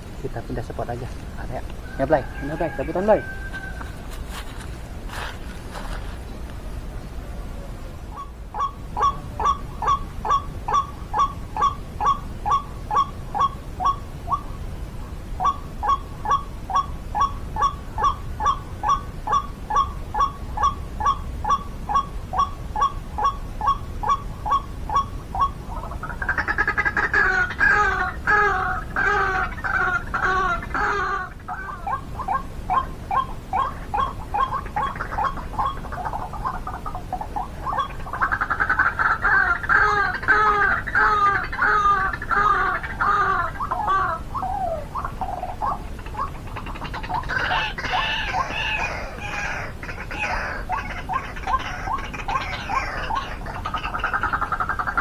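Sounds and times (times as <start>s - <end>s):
harsh bird calls: 0.0s - 4.1s, 8.1s - 14.6s, 15.4s - 55.0s
bird repeated calling notes: 0.2s - 3.9s, 8.1s - 14.6s, 15.3s - 55.0s.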